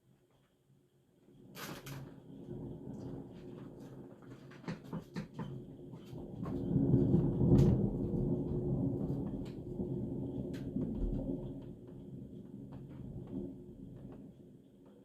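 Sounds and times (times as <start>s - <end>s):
rolling thunder: 1.5s - 14.6s.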